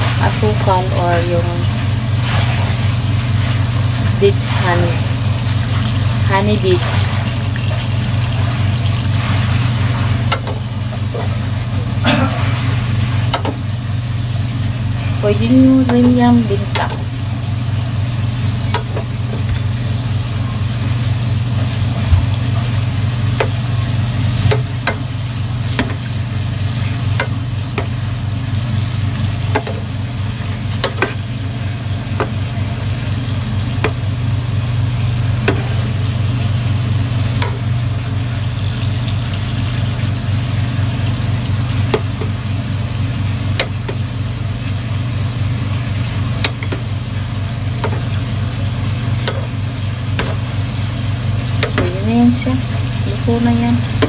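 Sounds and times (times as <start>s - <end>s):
oil sizzling with pops: 0.0s - 54.0s.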